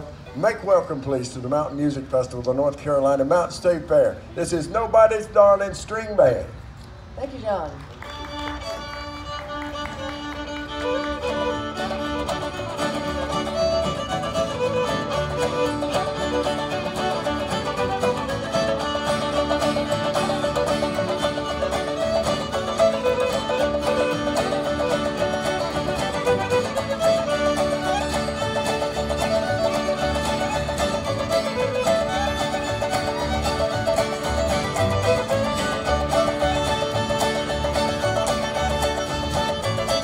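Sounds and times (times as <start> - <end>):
string band playing: 0.0 - 7.2, 7.8 - 40.0.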